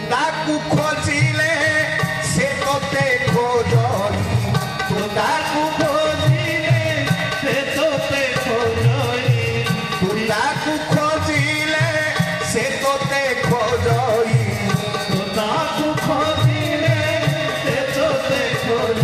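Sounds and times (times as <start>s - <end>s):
man singing into a microphone: 0.0s - 19.0s
steady drum beat: 0.8s - 19.0s.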